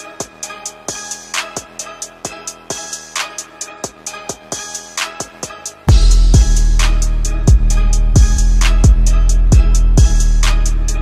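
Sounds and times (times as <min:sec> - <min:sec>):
hip-hop music: 0:00.0 - 0:11.0.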